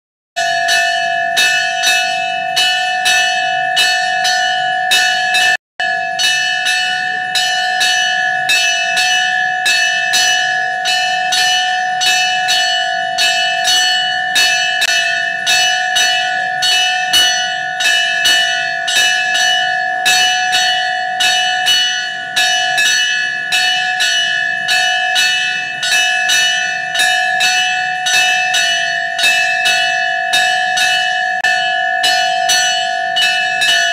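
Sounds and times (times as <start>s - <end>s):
temple bell ringing: 0.4s - 33.9s.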